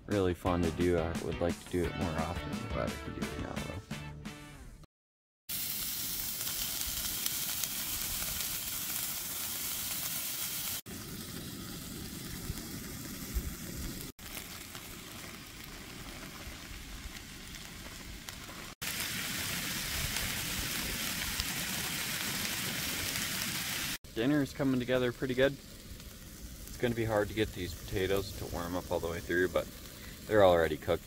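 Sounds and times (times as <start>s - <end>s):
food sizzling in a skillet: 5.5s - 31.0s.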